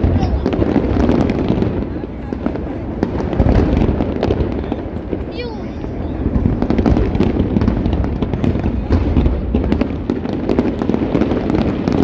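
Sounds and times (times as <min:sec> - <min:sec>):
fireworks crackles and bangs: 0:00.0 - 0:12.0.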